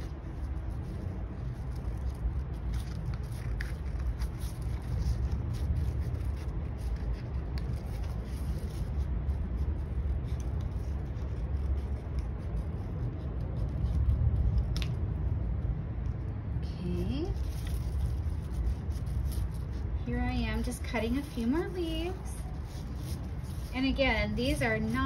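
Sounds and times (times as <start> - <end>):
paper rustling: 0.0 - 15.0, 17.0 - 25.0
steady low rumble: 0.0 - 25.0.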